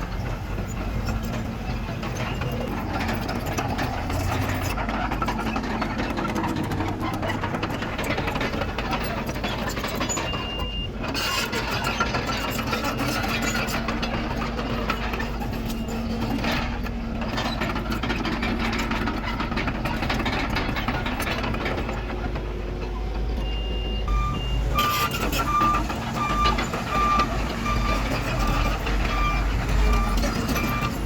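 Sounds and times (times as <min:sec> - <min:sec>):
bulldozer diesel engine under load: 0:00.0 - 0:31.0.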